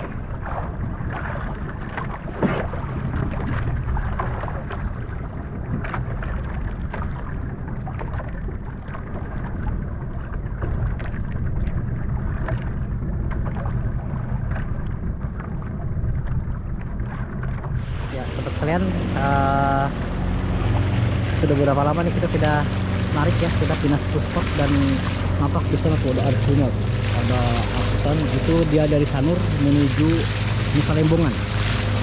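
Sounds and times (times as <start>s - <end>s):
wind and water rumble: 0.0s - 32.0s.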